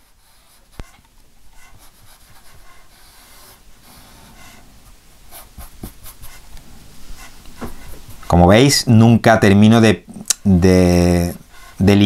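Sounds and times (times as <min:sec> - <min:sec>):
paintbrush scratchy brushing: 0:00.0 - 0:08.8, 0:11.0 - 0:12.0.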